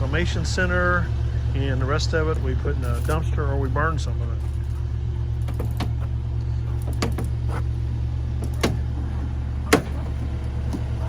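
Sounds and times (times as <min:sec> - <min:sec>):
engine running low: 0:00.0 - 0:11.0.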